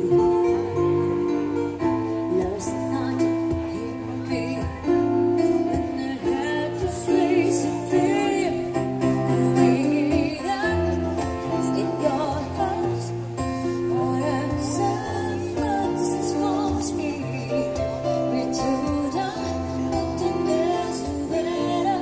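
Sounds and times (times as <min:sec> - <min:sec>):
strummed acoustic guitar: 0:00.0 - 0:22.0
woman singing: 0:00.0 - 0:22.0.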